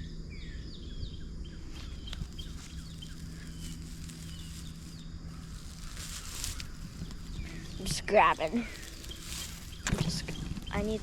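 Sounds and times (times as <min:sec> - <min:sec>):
small birds chirping: 0:00.0 - 0:11.0
steady low hum: 0:00.0 - 0:11.0
hay rustling and crackling: 0:01.7 - 0:11.0.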